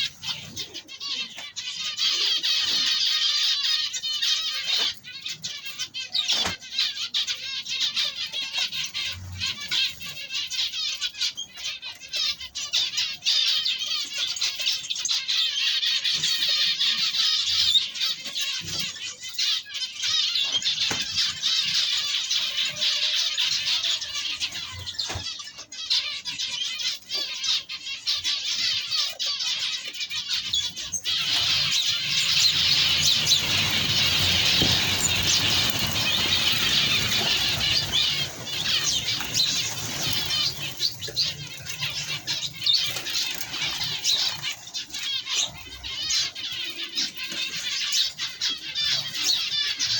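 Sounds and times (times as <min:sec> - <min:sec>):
birds chattering and chirping: 0:00.0 - 0:49.9.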